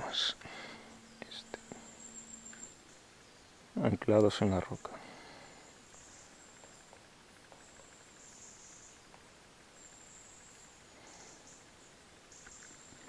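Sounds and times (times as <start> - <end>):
faint insect trill: 0.0 - 13.0.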